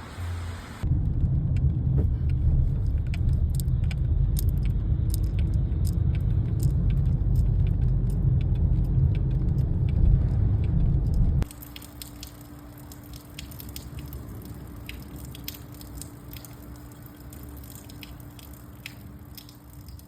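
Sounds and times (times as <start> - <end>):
low hum: 0.0 - 20.0
raindrops dripping: 0.0 - 20.0
soft rain patter: 0.0 - 20.0.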